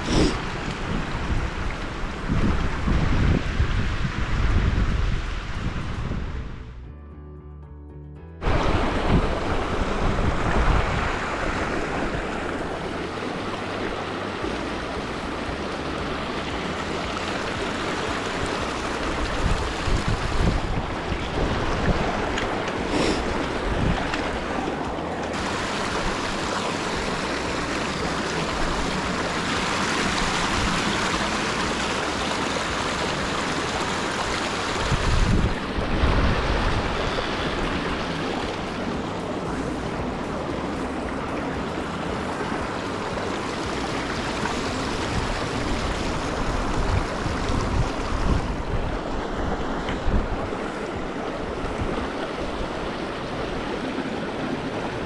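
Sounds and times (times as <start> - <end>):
stream water rushing: 0.0 - 6.7, 8.4 - 55.0
wind buffeting microphone: 0.0 - 6.8, 8.4 - 55.0.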